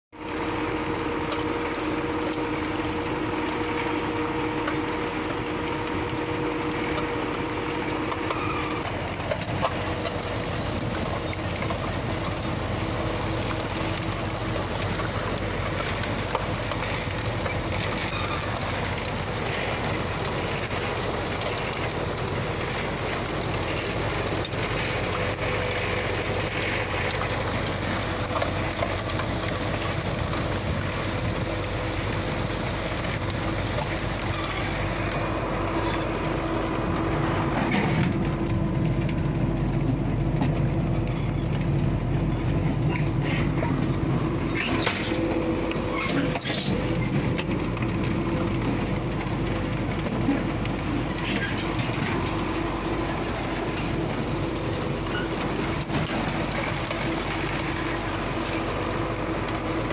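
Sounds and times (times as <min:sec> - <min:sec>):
tractor diesel engine under load: 0:00.1 - 0:59.9.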